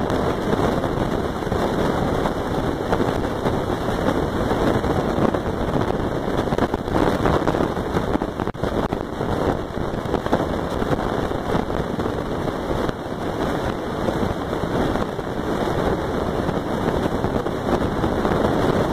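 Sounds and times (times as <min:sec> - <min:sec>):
wind buffeting microphone: 0:00.0 - 0:18.9.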